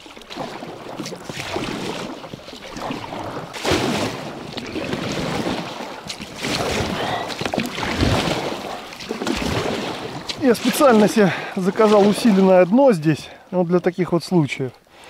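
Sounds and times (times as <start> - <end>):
kayak hull scraping over ice: 0.0 - 13.1
paddle splashes: 0.0 - 15.0.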